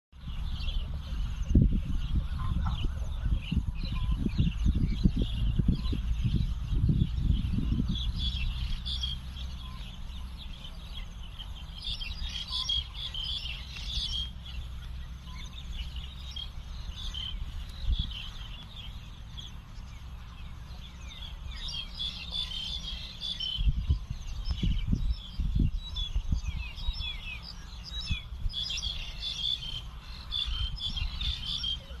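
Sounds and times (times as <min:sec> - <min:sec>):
birds chirping: 0:00.2 - 0:32.0
low rumbles: 0:00.2 - 0:32.0.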